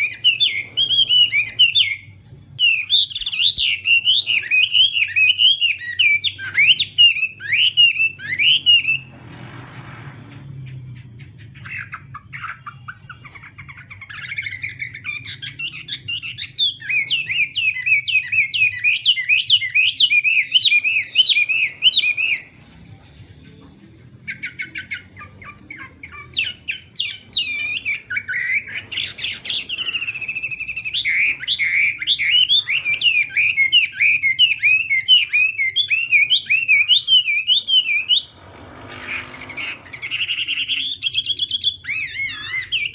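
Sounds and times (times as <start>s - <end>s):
songbird whistling song: 0.0s - 9.2s, 10.5s - 23.6s, 24.2s - 38.3s, 39.1s - 42.9s
faint low hum: 0.0s - 34.9s.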